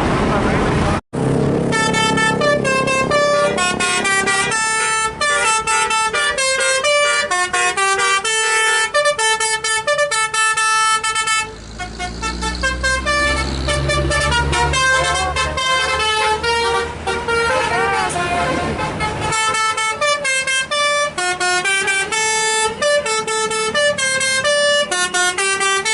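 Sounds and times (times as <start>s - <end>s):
diesel engine rumble: 0.0s - 25.9s
bus air horn playing a tune: 1.6s - 25.9s.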